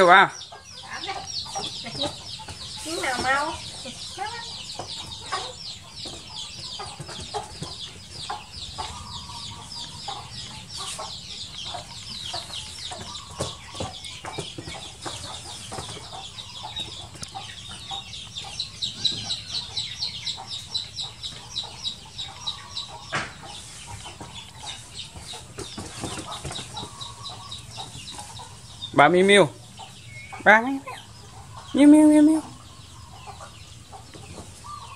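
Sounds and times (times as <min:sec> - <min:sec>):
chickens clucking: 0:00.0 - 0:34.9
chickens peeping: 0:00.0 - 0:34.9.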